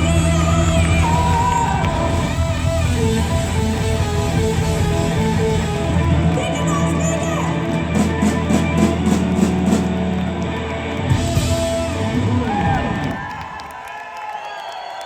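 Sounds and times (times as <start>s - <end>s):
blues-rock band playing: 0.0s - 13.4s
electric guitar: 0.0s - 13.7s.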